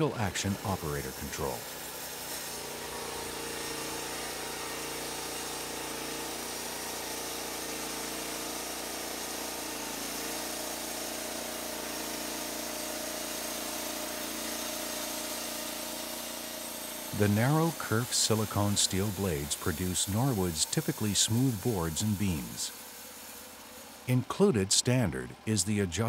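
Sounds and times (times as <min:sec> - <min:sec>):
band sawmill running: 0:00.0 - 0:26.0.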